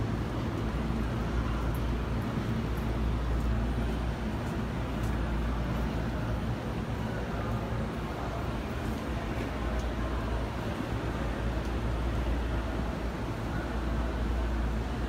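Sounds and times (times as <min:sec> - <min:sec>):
low hum inside train car: 0:00.0 - 0:15.0.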